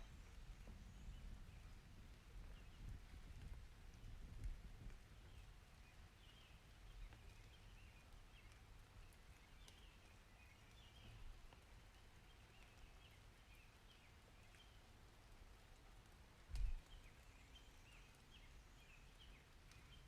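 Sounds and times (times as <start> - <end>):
faint steady rain: 0.0 - 20.0
small drips: 2.4 - 20.0.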